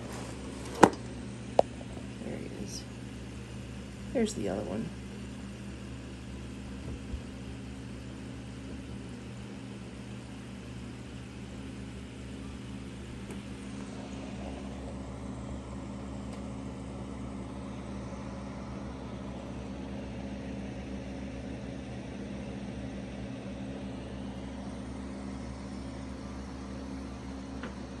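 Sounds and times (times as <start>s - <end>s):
air pump humming: 0.0s - 22.8s, 23.4s - 28.0s.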